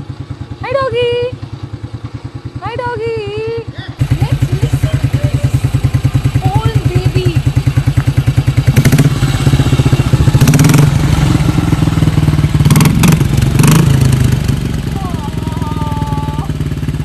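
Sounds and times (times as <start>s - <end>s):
motorcycle engine thumping: 0.0s - 17.0s.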